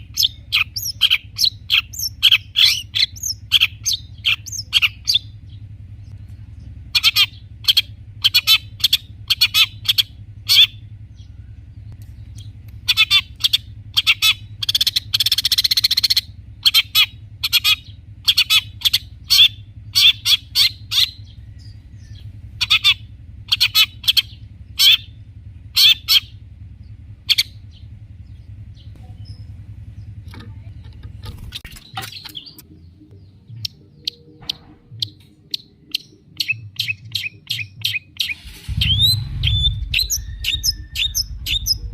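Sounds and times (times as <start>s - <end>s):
bird rasping chatter: 0.0s - 6.2s, 6.8s - 41.9s
bird harsh calls: 0.0s - 41.9s
steady low hum: 0.0s - 41.9s.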